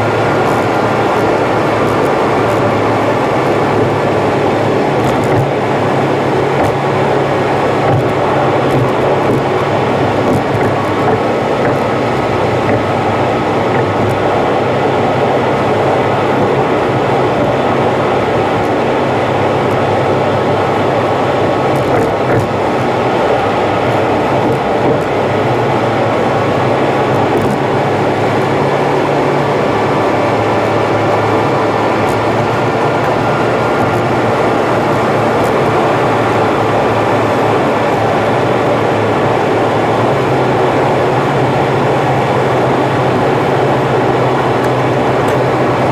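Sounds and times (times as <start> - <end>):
car road and engine noise: 0.0 - 45.9.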